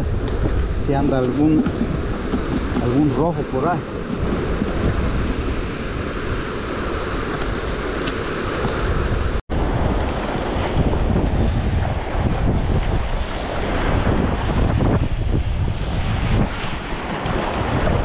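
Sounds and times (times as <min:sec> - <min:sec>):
breaking surf: 0:00.0 - 0:18.0
strong wind buffeting microphone: 0:00.0 - 0:18.0.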